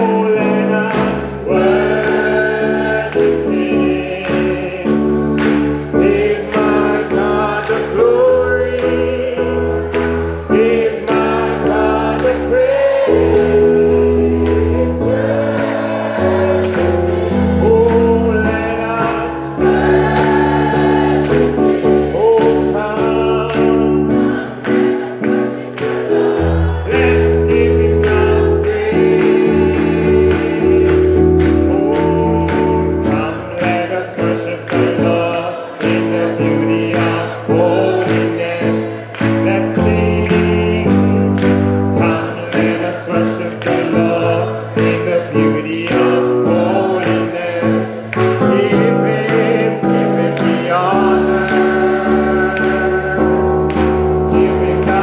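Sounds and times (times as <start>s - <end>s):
man singing into microphone: 0.0s - 25.5s, 26.1s - 55.0s
congregation singing: 0.0s - 55.0s
hands clapping: 0.0s - 55.0s
instrumental backing with bass: 0.0s - 55.0s.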